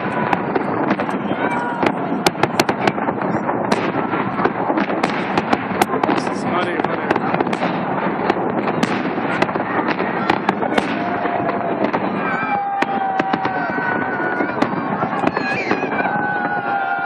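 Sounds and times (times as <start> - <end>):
fireworks bangs and pops: 0.0 - 17.0
fireworks crackling: 0.0 - 17.0.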